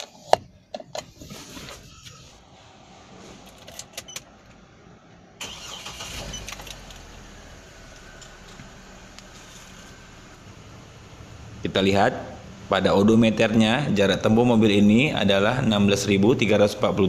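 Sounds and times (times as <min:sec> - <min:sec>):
car engine starting and idling: 0:00.3 - 0:17.0.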